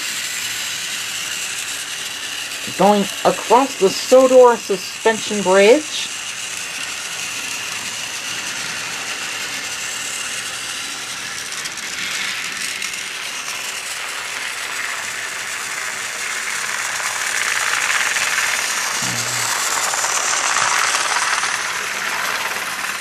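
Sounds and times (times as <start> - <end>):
toy train gear rattle: 0.0 - 23.0.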